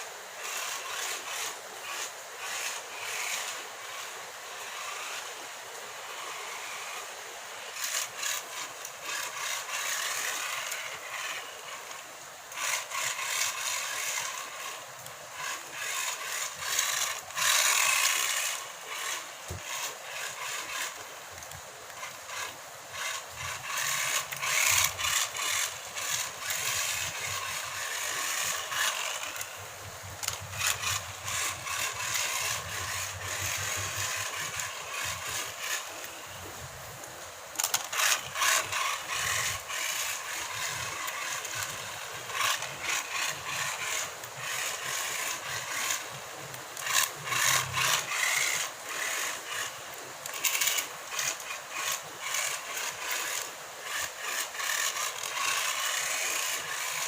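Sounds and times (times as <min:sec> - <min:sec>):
toy rc car running: 0:00.0 - 0:57.0.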